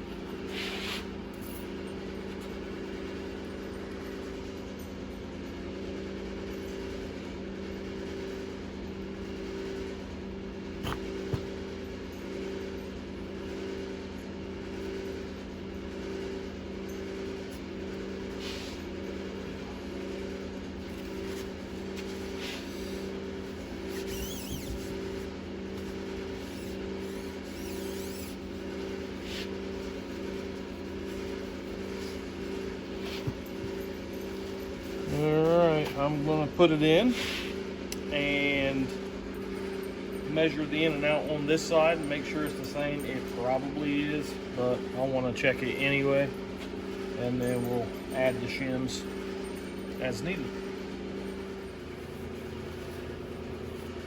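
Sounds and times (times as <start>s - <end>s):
pulsing machine hum: 0.0s - 54.0s.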